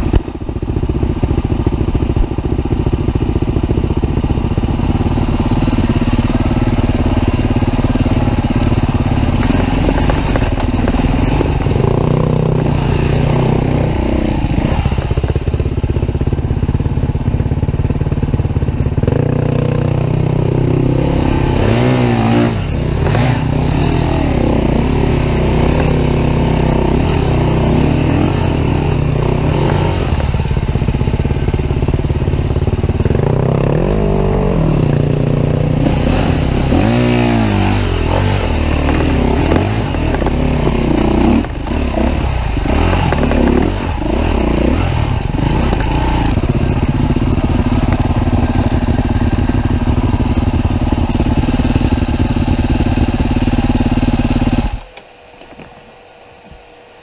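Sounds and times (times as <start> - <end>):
motorcycle engine revving: 0.0 - 55.2.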